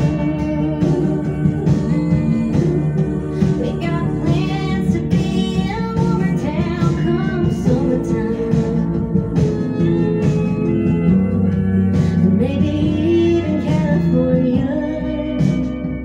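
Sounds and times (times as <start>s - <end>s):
country song on vinyl record: 0.0s - 16.0s.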